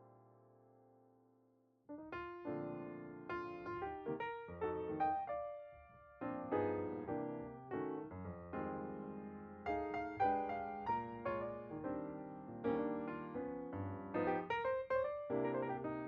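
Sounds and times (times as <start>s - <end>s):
gentle piano melody: 0.0s - 1.0s, 1.9s - 16.0s.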